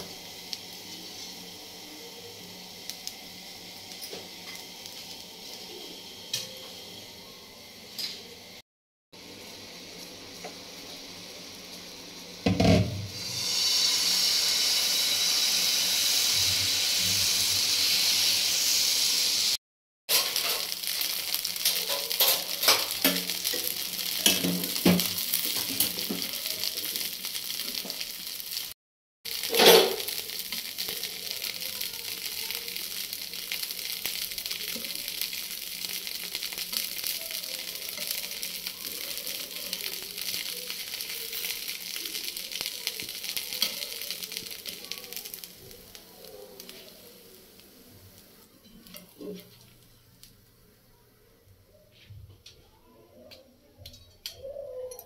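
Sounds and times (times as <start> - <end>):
batter sizzling on hot pan: 0.0 - 8.6, 9.2 - 51.0.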